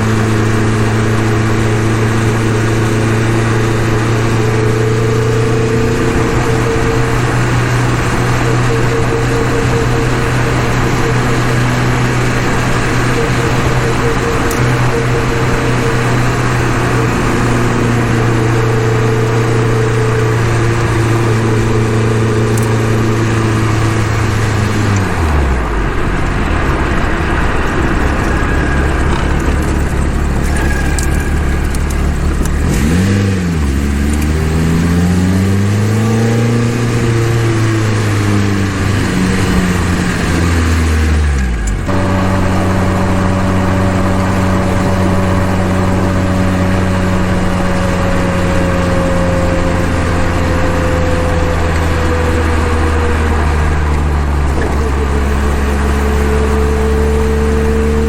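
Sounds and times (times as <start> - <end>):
car engine driving with gear changes: 0.0 - 58.0.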